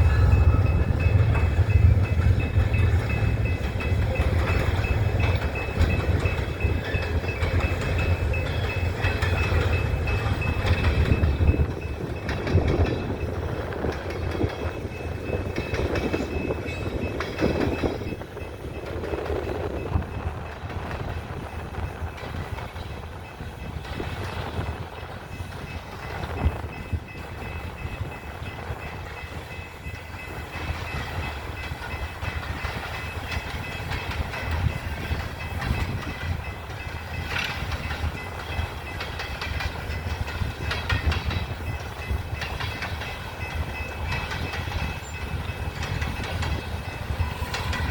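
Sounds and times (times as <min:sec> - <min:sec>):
freight cars rumbling: 0:00.0 - 0:47.9
wheels clicking over rail joints: 0:00.0 - 0:47.9.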